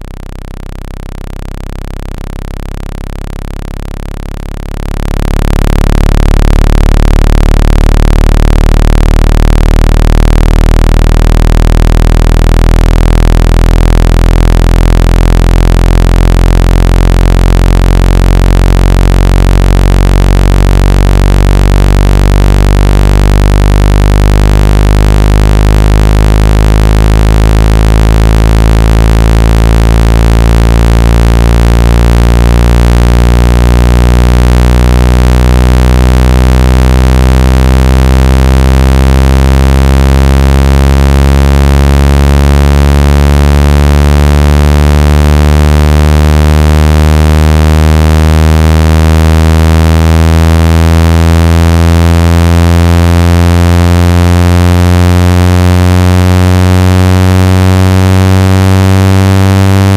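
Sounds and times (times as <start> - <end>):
buzzy low tone rising in pitch: 0.0 - 59.9.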